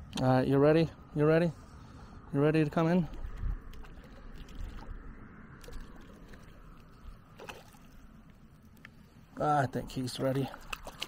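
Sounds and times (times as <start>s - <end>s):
water lapping and swishing: 1.0s - 11.0s.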